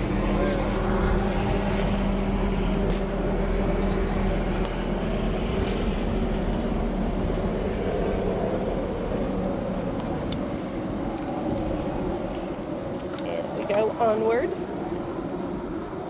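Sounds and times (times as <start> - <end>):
low hum: 0.0 - 16.0
road noise: 0.0 - 16.0.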